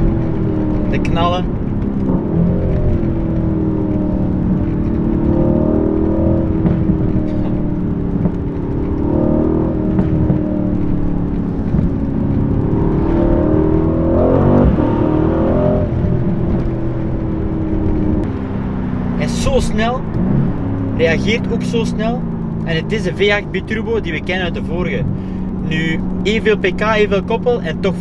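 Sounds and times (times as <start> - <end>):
car engine revving in cabin: 0.0 - 28.0
exhaust pops: 0.0 - 28.0.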